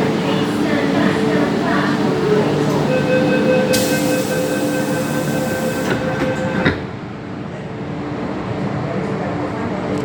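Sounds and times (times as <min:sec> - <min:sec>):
electric train rumble and whine: 0:00.0 - 0:09.9.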